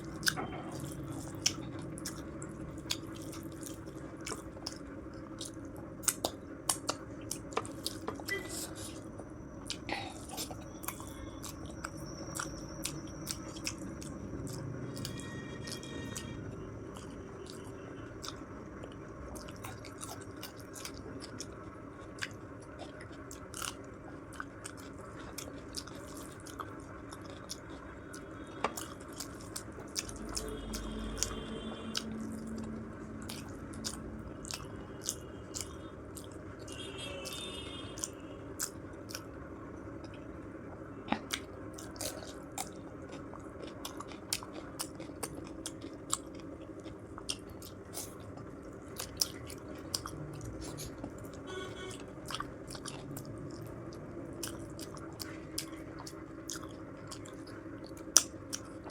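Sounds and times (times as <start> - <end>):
person chewing food: 0.0 - 39.4, 40.0 - 58.9.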